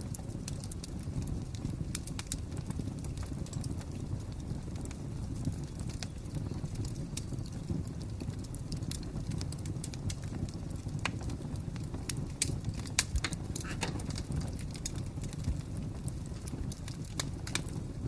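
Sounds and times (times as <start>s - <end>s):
fire crackling and popping: 0.0s - 18.0s
low rumble of burning: 0.0s - 18.0s.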